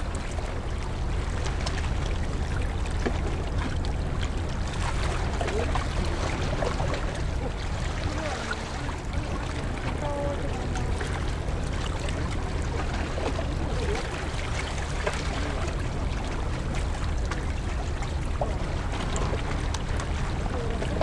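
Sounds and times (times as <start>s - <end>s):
ship engines rumbling: 0.0s - 21.0s
water washing along shore: 0.0s - 21.0s.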